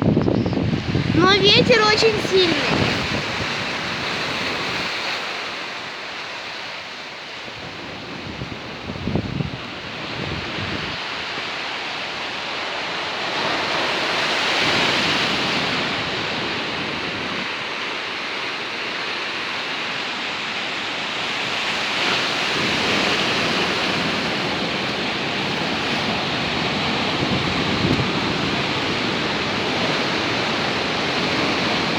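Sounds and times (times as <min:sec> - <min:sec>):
rough sea waves breaking: 0:00.0 - 0:31.9
strong wind: 0:00.0 - 0:31.9.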